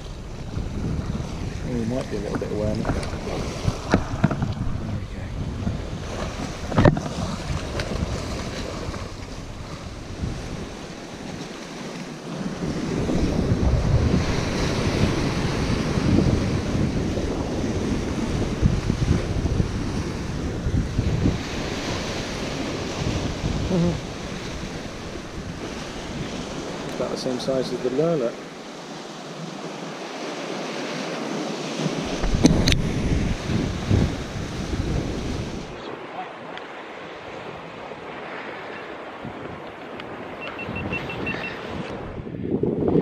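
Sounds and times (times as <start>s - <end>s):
surf washing over rocks: 0.0s - 43.0s
wind buffeting microphone: 0.0s - 43.0s.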